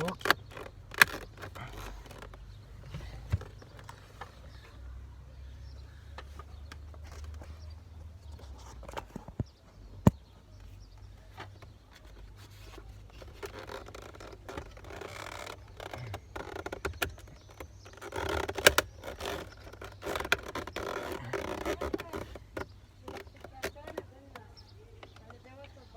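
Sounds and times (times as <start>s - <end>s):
duct scraping and rustling: 0.0s - 5.0s, 5.9s - 25.6s.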